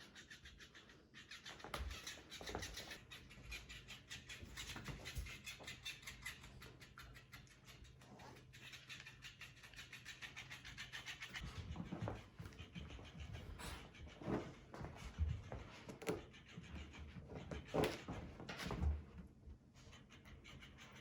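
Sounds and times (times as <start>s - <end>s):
toy thumps and rubbing: 0.0s - 18.6s.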